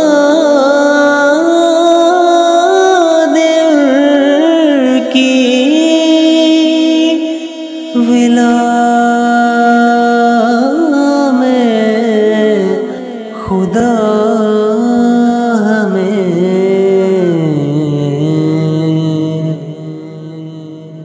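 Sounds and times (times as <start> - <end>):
man singing wordless melody: 0.0 - 21.0.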